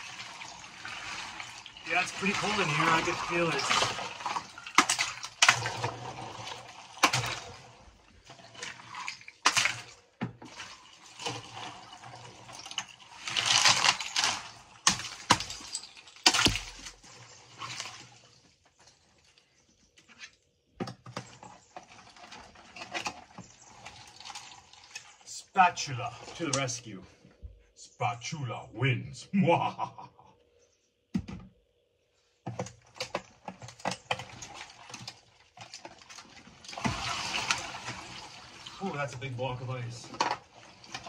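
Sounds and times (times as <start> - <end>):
ice water sloshing and splashing: 0.0 - 20.2, 21.1 - 26.7, 32.5 - 41.0.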